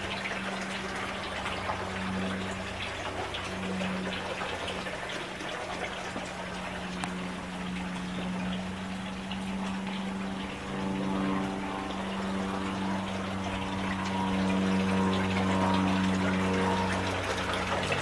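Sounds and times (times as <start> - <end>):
steady low hum: 0.0 - 18.0
water fountain splashing: 0.0 - 18.0.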